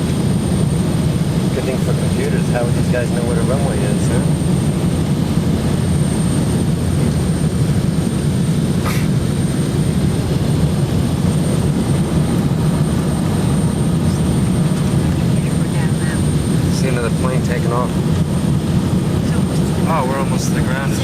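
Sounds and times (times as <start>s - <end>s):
jet airliner cabin roar: 0.0s - 21.0s.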